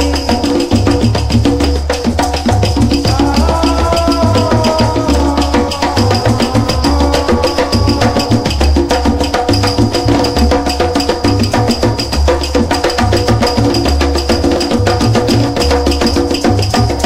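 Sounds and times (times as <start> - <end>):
music with fast percussive beat: 0.0 - 17.0.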